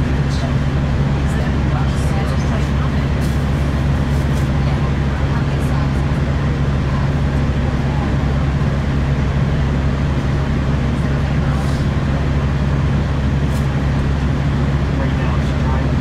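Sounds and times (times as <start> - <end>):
diesel engine low hum: 0.0 - 16.0
train wheel and rail noise: 0.0 - 16.0.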